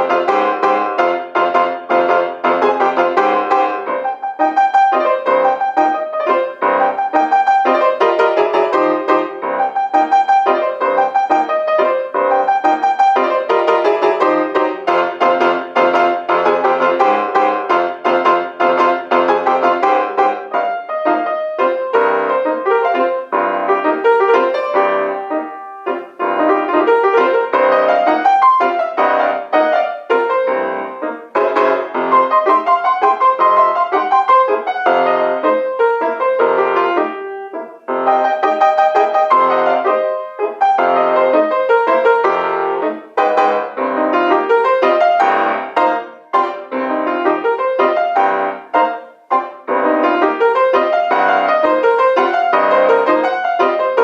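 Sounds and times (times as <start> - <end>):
fast solo piano dance piece: 0.0 - 54.0.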